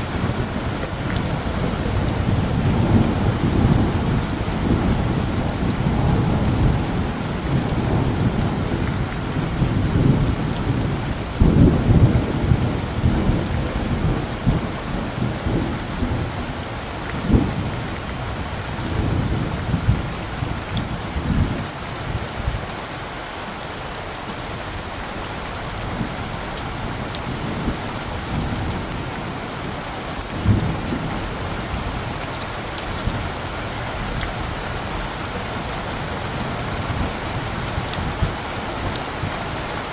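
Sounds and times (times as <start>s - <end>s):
thunder rumbling: 0.0s - 22.7s, 24.5s - 39.9s
rain falling: 0.0s - 39.9s.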